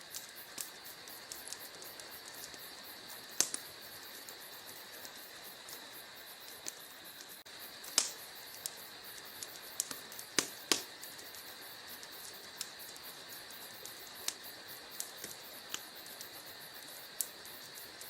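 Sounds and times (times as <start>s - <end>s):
loud fire pops: 0.0s - 18.0s
steady hiss: 0.0s - 18.0s
wood fire crackling: 0.0s - 18.0s.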